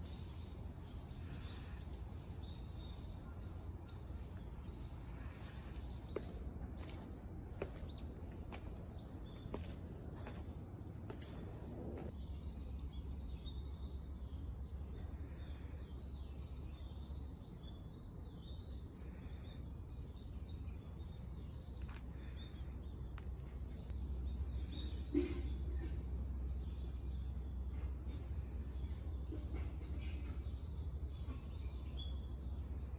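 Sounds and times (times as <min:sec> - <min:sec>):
low outdoor rumble: 0:00.0 - 0:32.9
small birds chirping: 0:00.0 - 0:32.9.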